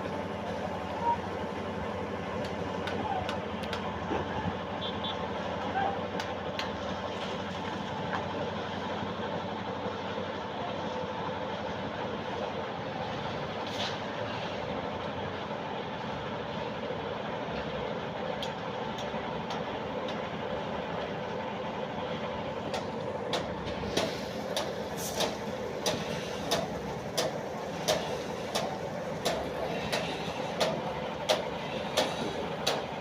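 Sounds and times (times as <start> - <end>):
machinery running: 0.0 - 33.0.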